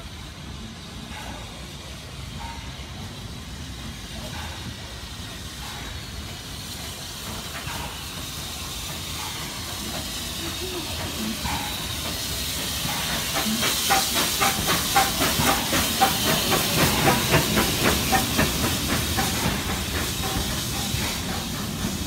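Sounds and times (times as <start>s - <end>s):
hissing steam: 0.0s - 22.0s
steam locomotive chuffing: 0.0s - 22.0s.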